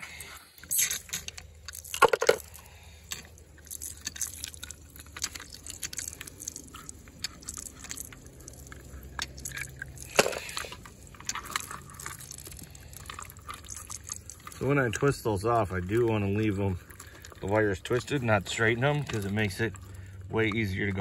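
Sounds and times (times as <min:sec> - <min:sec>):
wires crackling and clicking: 0:00.0 - 0:21.0.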